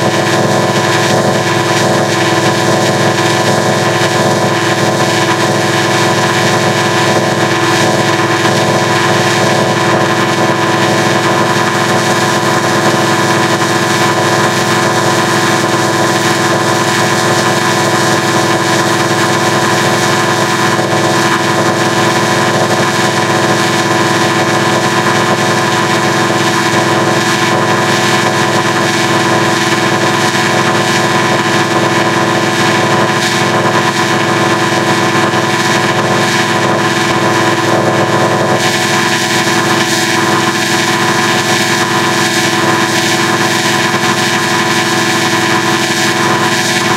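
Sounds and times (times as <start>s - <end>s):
distorted electronic drone: 0.0s - 46.9s.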